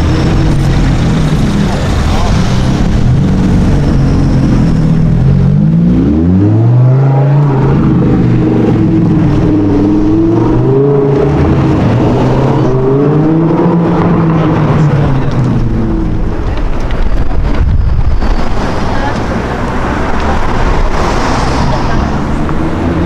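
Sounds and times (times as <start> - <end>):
sports car engine accelerating: 0.0 - 17.6, 18.4 - 23.0.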